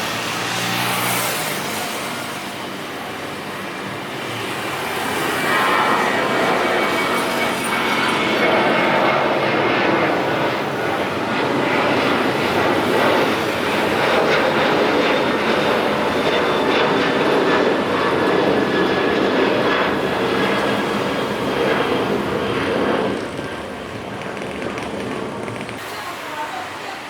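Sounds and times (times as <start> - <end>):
jet engines roaring at takeoff: 0.0 - 27.0.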